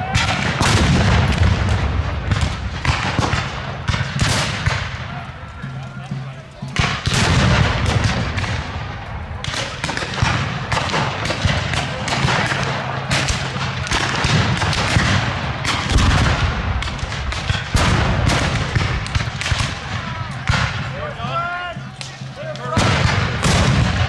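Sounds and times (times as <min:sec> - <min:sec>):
black-powder gunshots echoing: 0:00.0 - 0:05.3, 0:06.7 - 0:21.3, 0:21.9 - 0:24.0.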